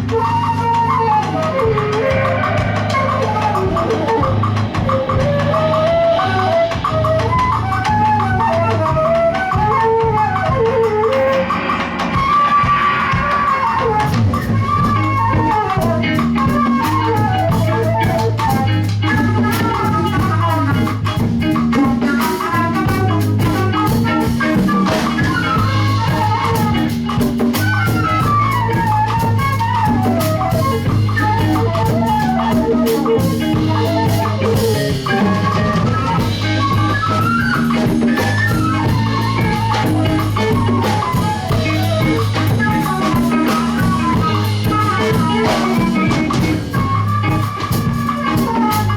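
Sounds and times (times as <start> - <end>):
lead instrument melodic runs: 0.0 - 48.9
live band playing instrumental: 0.0 - 48.9.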